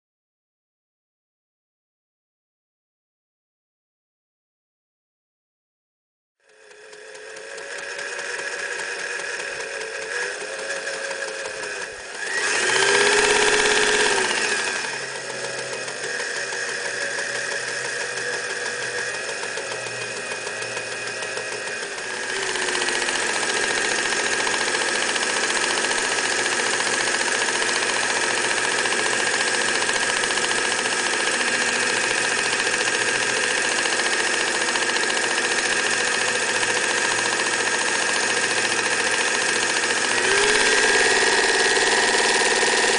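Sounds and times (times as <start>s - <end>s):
electric sewing machine running: 6.4s - 42.9s.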